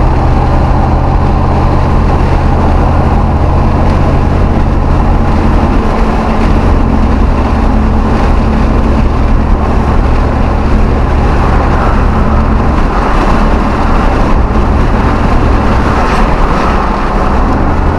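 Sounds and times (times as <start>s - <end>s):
pickup truck engine running: 0.0s - 17.9s
road noise: 0.0s - 17.9s.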